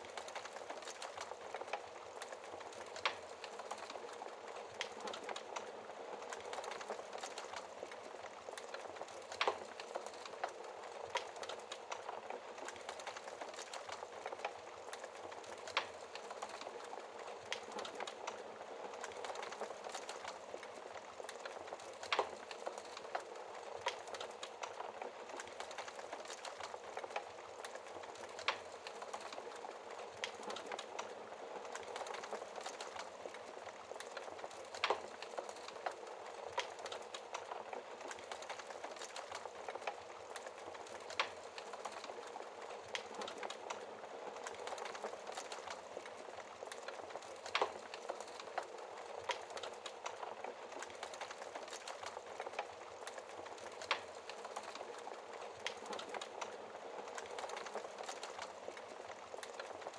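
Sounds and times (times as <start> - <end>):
wood fire burning: 0.0 - 59.9.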